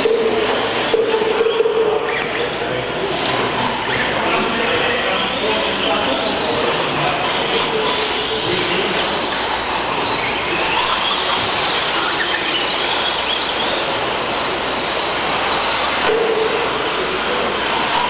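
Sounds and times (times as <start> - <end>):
rc trucks motors whining: 0.0 - 18.0.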